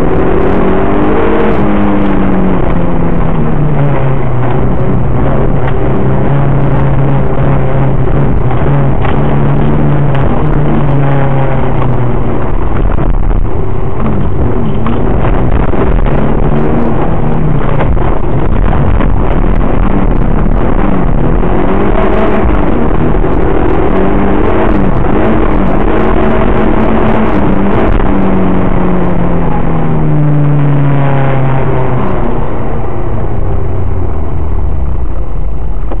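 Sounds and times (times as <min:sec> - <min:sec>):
car engine revving: 0:00.0 - 0:36.0
road and tyre noise: 0:00.0 - 0:36.0.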